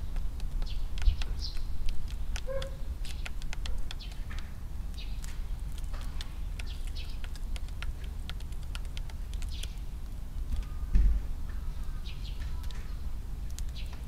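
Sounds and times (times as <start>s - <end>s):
birds pecking seed in plastic tray: 0.0s - 14.0s.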